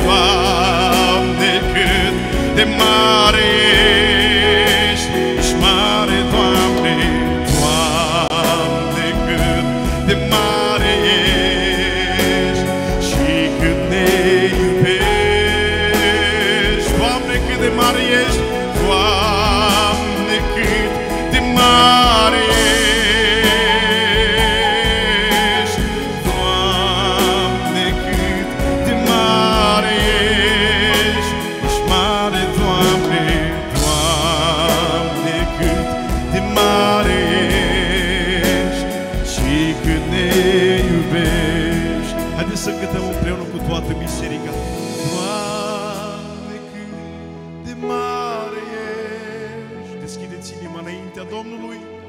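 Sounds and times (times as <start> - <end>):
electronic keyboard accompaniment: 0.0 - 52.0
man singing with vibrato: 0.0 - 52.0.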